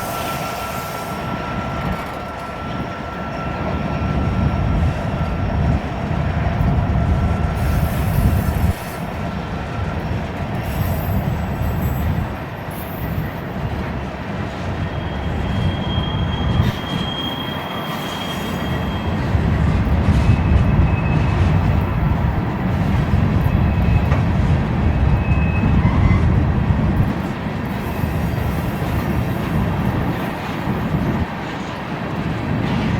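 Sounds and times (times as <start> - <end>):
wind buffeting microphone: 0.0 - 17.2, 18.7 - 32.9
train wheel squeal: 0.0 - 32.9.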